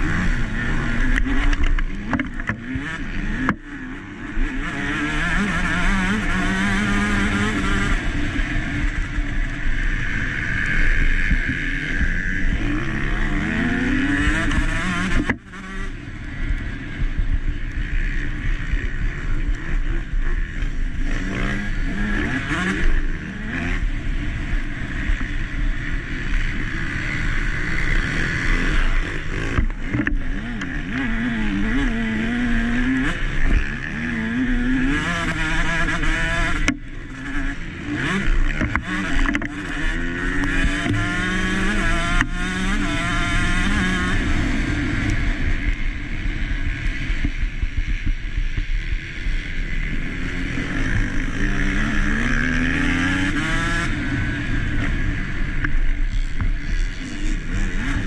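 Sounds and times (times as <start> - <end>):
motocross engine revving: 0.0 - 16.9, 17.8 - 47.3, 48.9 - 58.0.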